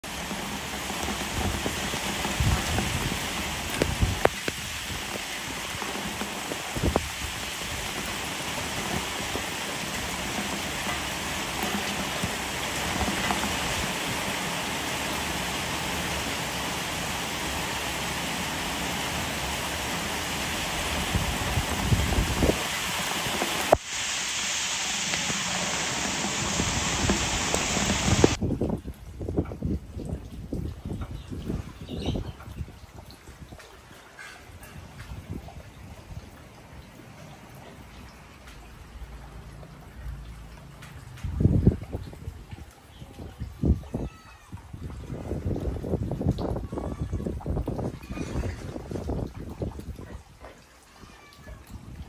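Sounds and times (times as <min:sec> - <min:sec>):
heavy rain on concrete: 0:00.0 - 0:52.0.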